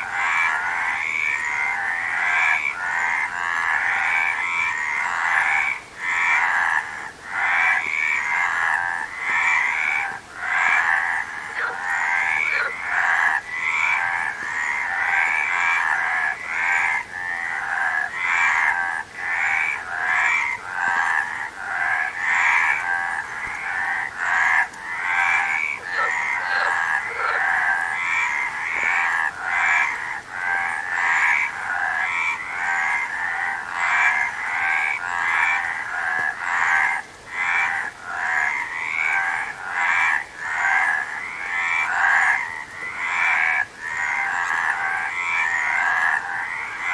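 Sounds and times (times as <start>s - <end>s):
frogs croaking in chorus: 0.0s - 46.9s.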